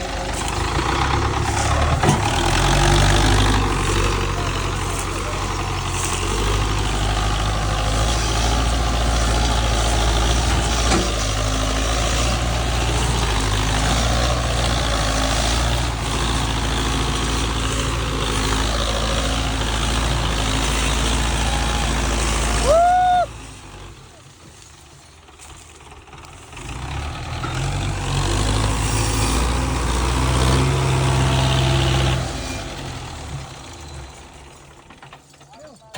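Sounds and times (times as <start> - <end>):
tractor diesel engine droning: 0.0 - 35.9.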